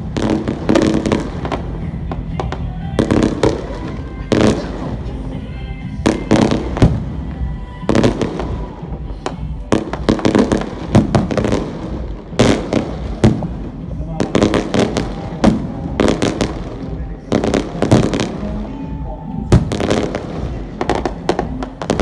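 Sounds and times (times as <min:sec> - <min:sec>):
music playing: 0:00.0 - 0:22.0.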